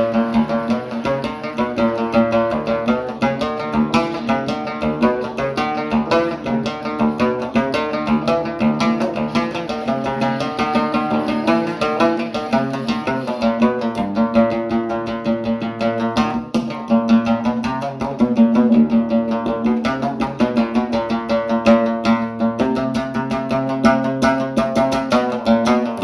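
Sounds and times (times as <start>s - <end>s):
rapidly plucked strings: 0.0s - 26.0s.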